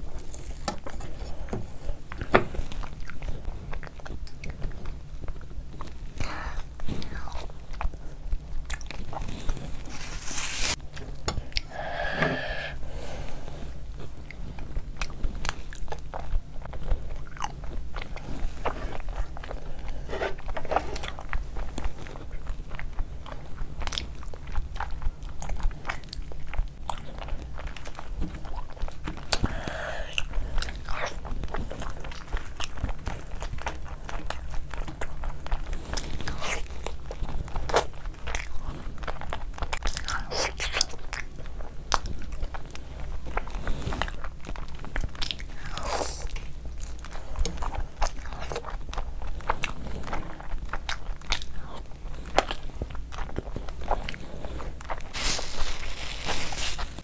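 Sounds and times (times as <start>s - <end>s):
person biting and chewing: 8.6s - 13.0s, 13.9s - 57.0s.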